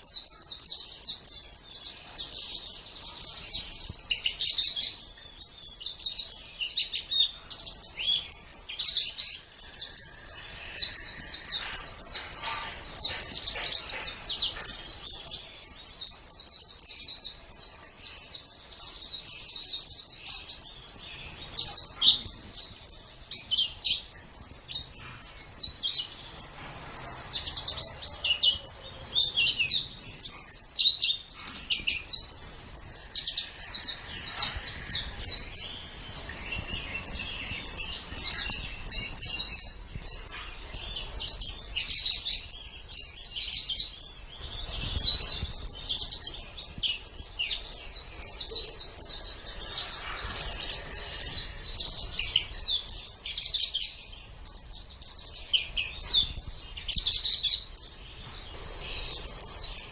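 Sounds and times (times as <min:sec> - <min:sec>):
bird chirping and trilling song: 0:00.0 - 0:59.9.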